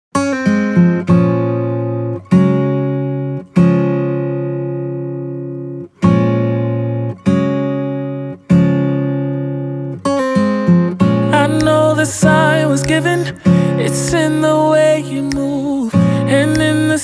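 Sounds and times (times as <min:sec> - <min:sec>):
acoustic guitar strumming chords: 0:00.1 - 0:17.0.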